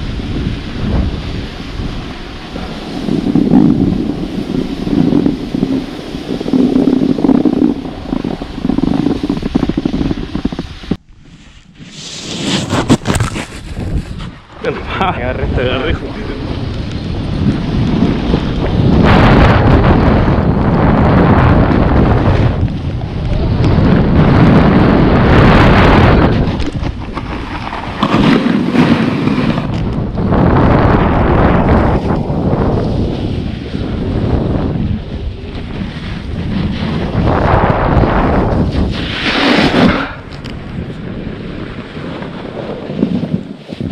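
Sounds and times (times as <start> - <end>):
snowboard scraping on snow: 0.0 - 43.9
wind buffeting microphone: 0.0 - 43.9.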